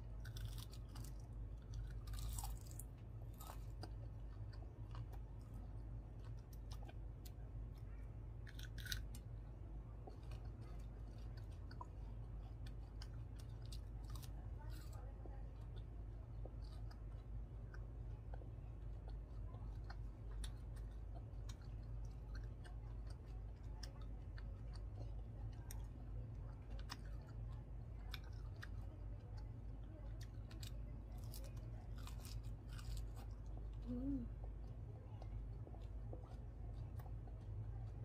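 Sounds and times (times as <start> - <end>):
chewing crunchy fried shrimp: 0.0 - 38.0
steady low hum: 0.0 - 38.0.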